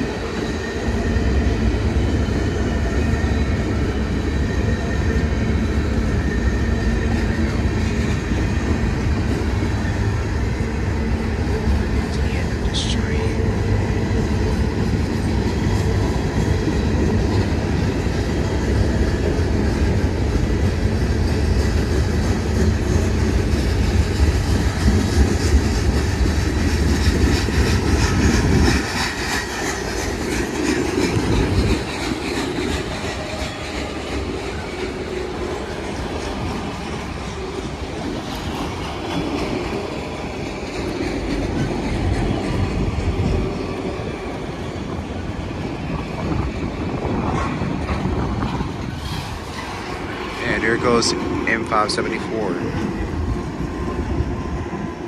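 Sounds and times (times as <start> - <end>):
diesel locomotive rumble: 0.0 - 55.0
train cars rattling: 0.0 - 55.0.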